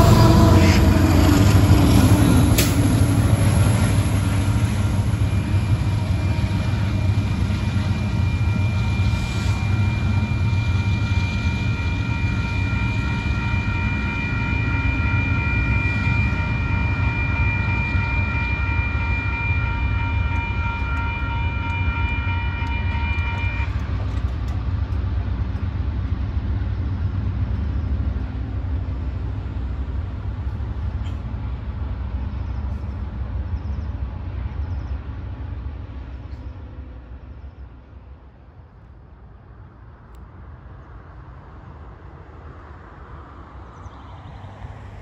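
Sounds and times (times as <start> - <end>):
freight train rumbling: 0.0 - 45.0.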